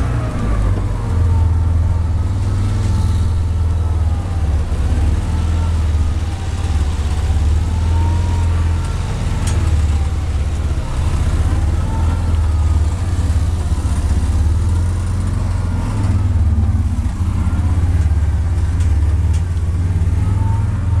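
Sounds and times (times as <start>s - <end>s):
small vehicle engine running: 0.0s - 21.0s.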